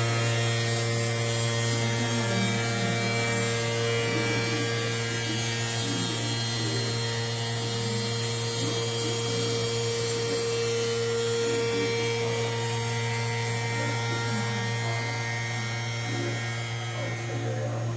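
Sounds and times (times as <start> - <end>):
cnc router motor whining: 0.0 - 17.9.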